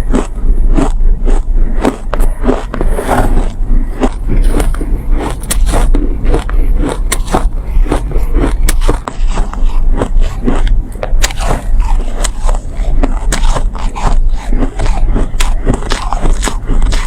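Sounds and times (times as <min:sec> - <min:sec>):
chewing crunchy ice: 0:00.0 - 0:17.0
low hum: 0:00.0 - 0:17.0.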